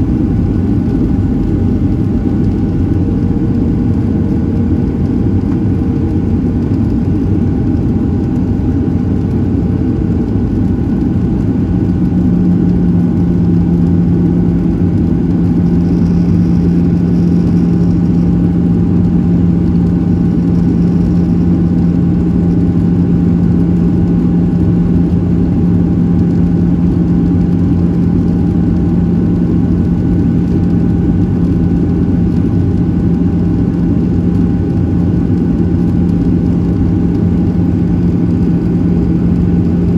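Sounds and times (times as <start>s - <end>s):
airplane cabin engine noise: 0.0s - 39.9s
strong low hum: 0.0s - 39.9s.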